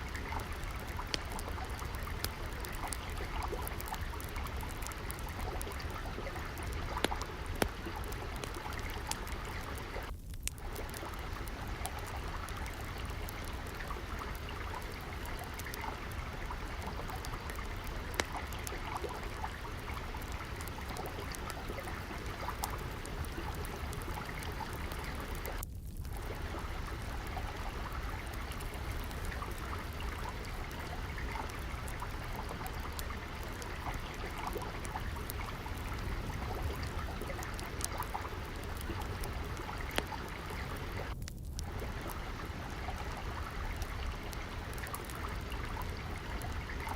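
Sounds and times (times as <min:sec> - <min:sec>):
water flowing and trickling: 0:00.0 - 0:46.9
wood fire popping and crackling: 0:00.0 - 0:46.9.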